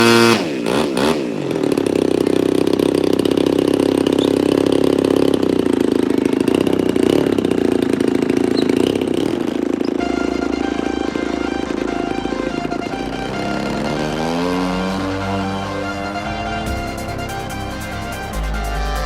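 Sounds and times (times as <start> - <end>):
model aeroplane engine running: 0.0 - 19.0.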